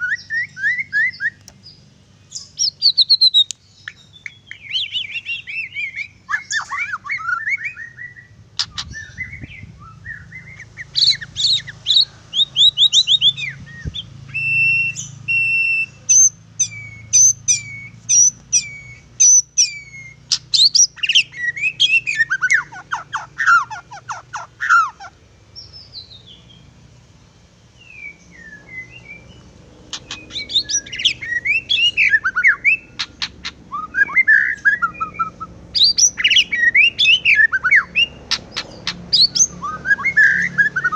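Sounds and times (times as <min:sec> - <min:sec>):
songbird singing whistles and trills: 0:00.0 - 0:26.7, 0:27.7 - 0:40.9.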